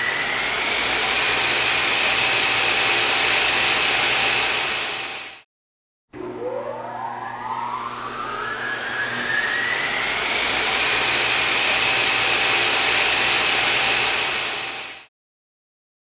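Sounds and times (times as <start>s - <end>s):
machine motor whine: 0.0s - 5.3s, 6.2s - 15.0s.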